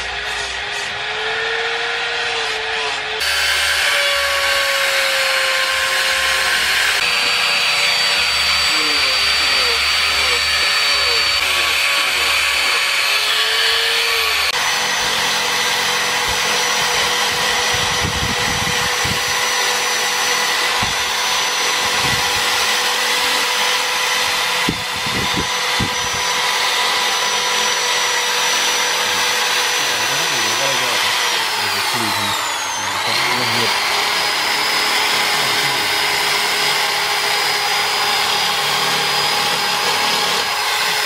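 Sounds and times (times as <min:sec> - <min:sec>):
power drill whine: 0:00.0 - 0:41.0
sanding wheel grinding wood: 0:00.0 - 0:41.0.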